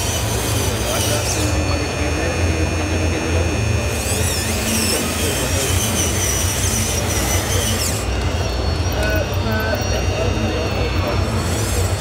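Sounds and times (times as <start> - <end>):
high motor whines: 0.0 - 12.0.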